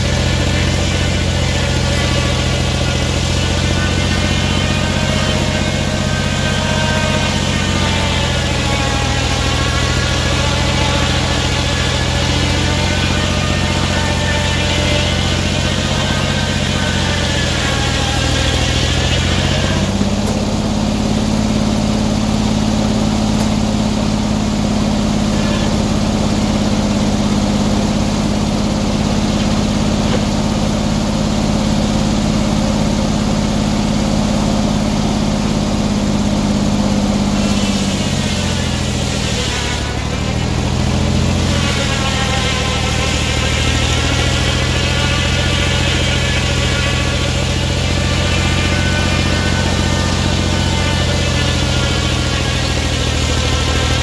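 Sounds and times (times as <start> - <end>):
circular saw blade cutting log: 0.0 - 54.0
sawmill carriage moving: 0.0 - 54.0
sawmill engine running: 0.0 - 54.0.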